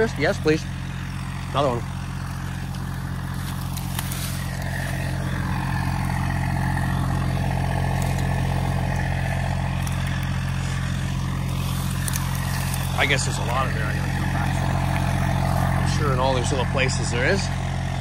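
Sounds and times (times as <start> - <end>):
diesel tractor engine running: 0.0 - 18.0
high engine whine: 0.0 - 18.0.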